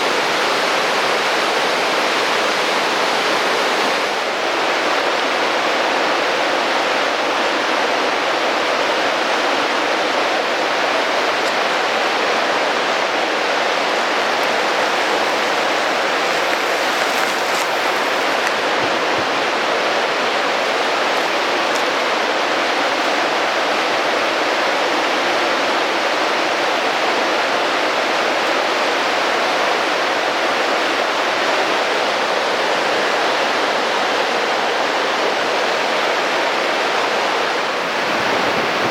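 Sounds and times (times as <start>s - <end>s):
creek rushing: 0.0s - 38.9s.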